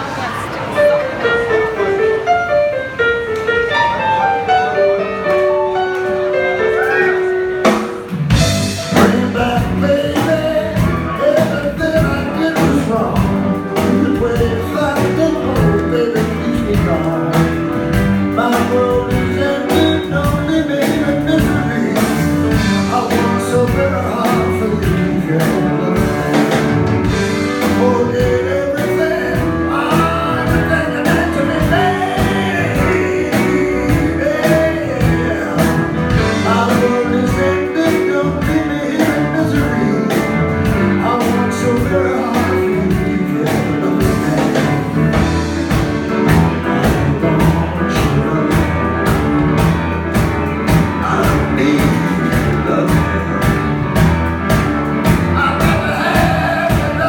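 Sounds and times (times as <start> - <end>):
live rock band playing: 0.0 - 57.0
man singing into a microphone: 8.5 - 54.1, 55.0 - 57.0.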